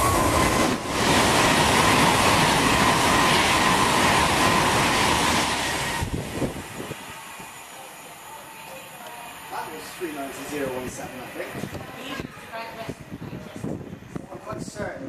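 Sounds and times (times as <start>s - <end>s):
train rushing past: 0.0s - 14.9s.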